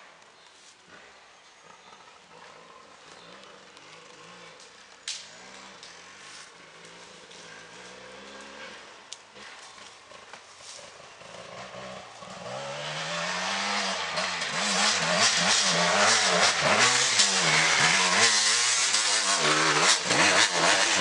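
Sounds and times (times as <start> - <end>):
dirt bike engine revving: 2.3 - 21.0.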